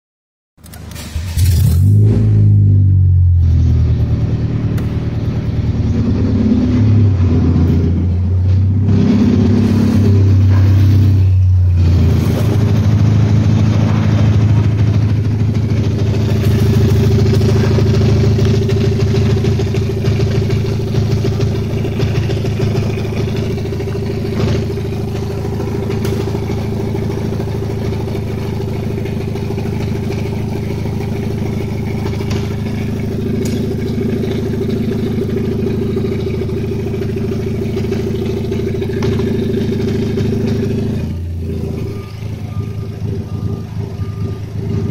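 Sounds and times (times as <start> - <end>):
car engine idling: 0.6 - 44.9.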